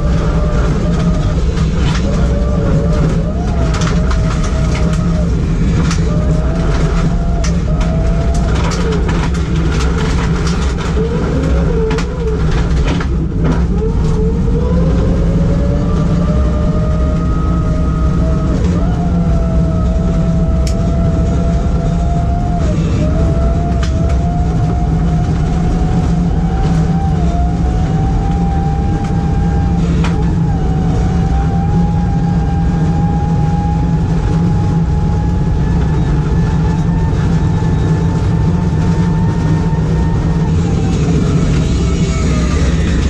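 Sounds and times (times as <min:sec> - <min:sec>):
car engine running hard: 0:00.0 - 0:43.0
rising whine: 0:00.0 - 0:43.0.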